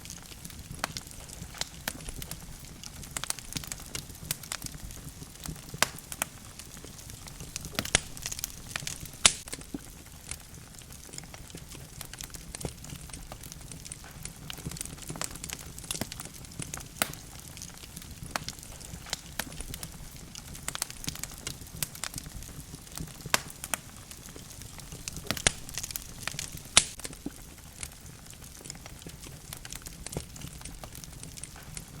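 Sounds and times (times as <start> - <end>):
fire crackling and popping: 0.0 - 32.0
low rumble of flames: 0.0 - 32.0.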